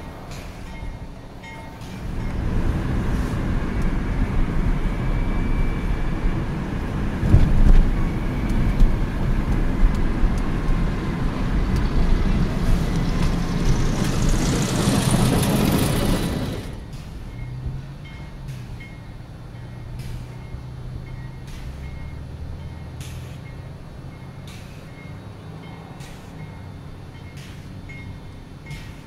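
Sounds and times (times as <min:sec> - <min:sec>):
train cars rumbling past: 0:00.0 - 0:29.0.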